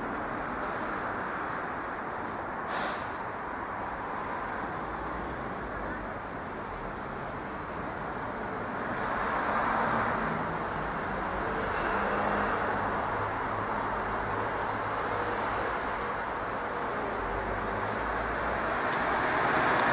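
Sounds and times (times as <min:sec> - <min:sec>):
road traffic hum: 0:00.0 - 0:19.9.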